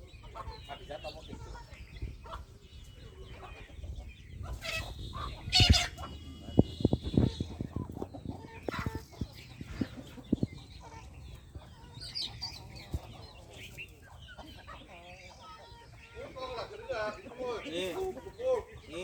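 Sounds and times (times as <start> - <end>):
chicken clucking: 0.0 - 19.0
chicken squawk: 0.2 - 18.4.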